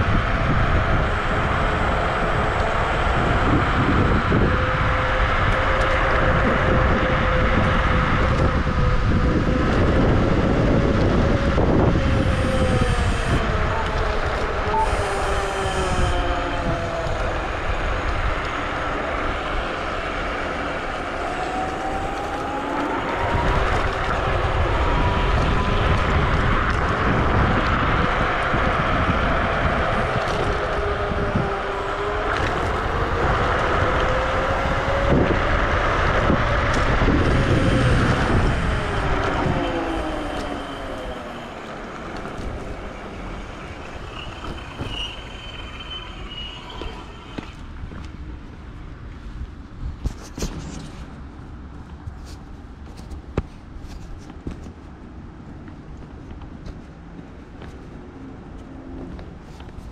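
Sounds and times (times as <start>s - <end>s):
electric scooter motors whining: 0.0s - 49.1s
wind and tyre noise: 0.0s - 59.9s.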